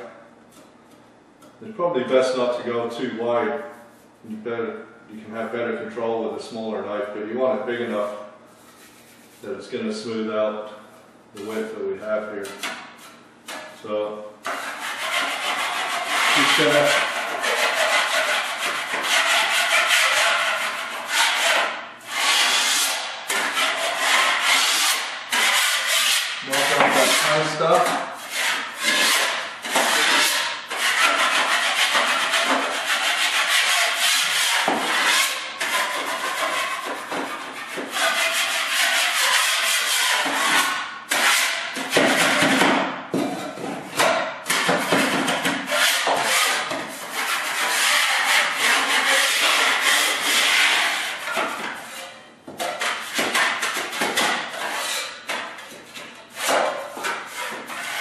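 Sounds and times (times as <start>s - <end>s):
drywall knife scraping: 7.7s - 9.6s, 12.4s - 58.0s.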